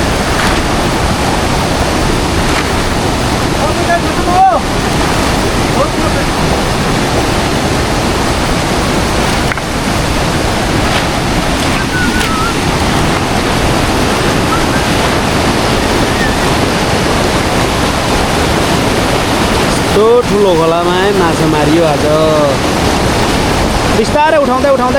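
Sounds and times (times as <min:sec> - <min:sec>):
river rushing: 0:00.0 - 0:24.9.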